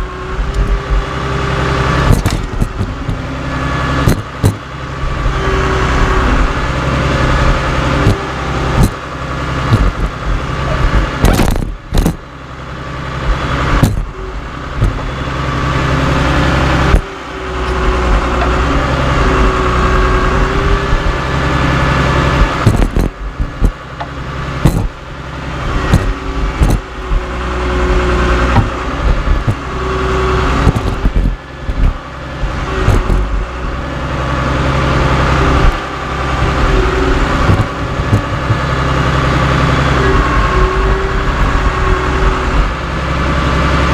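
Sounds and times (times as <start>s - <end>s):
bulldozer diesel engine running: 0.0s - 43.9s
squealing metal whine: 0.0s - 43.9s.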